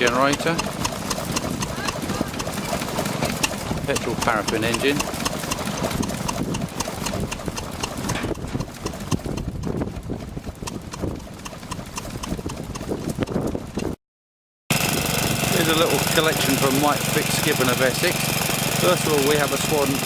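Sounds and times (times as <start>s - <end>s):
stationary engine clattering: 0.0s - 14.0s, 14.7s - 20.0s.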